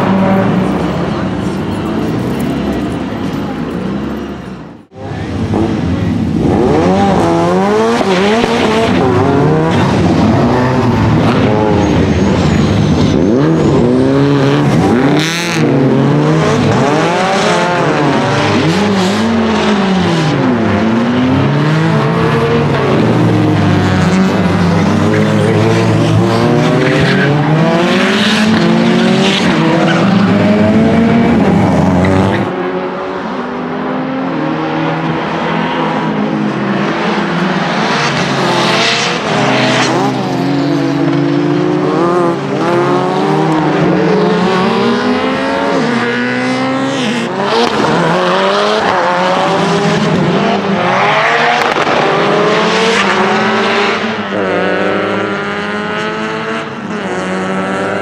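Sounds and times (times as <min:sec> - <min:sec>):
car engine revving hard: 0:05.3 - 0:58.0.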